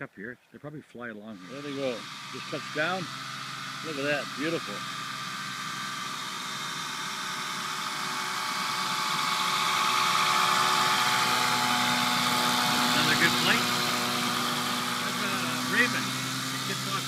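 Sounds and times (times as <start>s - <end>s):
light aircraft engine taxiing: 1.3s - 17.0s.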